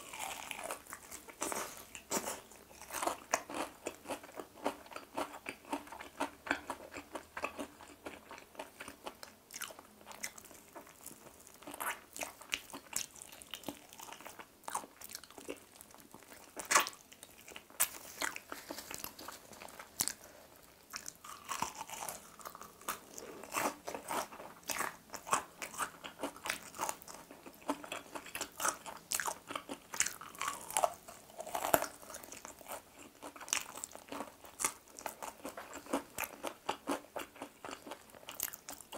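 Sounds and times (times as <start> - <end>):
crunching fried chicken: 0.0 - 38.9.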